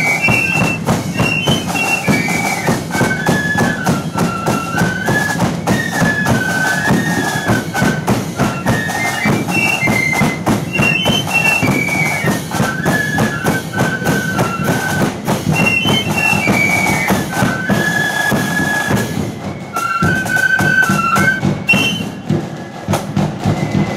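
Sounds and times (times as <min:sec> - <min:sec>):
flute band playing a march: 0:00.0 - 0:23.9
marching drum strokes: 0:00.0 - 0:23.9.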